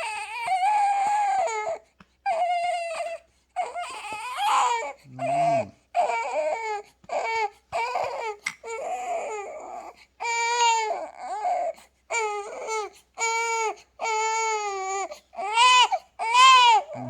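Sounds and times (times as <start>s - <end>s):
baby crying: 0.0s - 17.0s.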